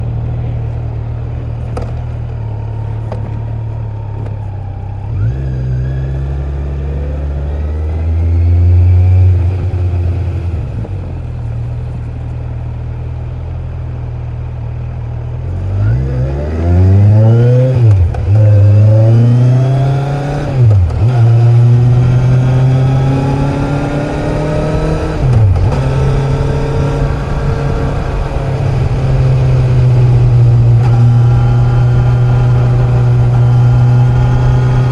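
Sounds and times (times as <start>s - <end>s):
motorcycle engine revving: 0.0s - 11.4s, 15.4s - 34.9s.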